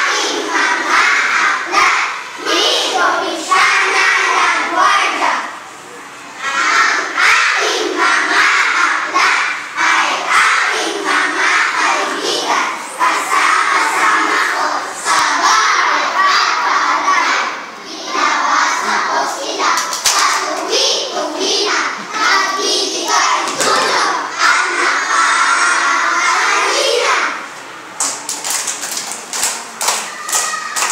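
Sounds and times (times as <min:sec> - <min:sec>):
children reciting in unison: 0:00.0 - 0:27.7.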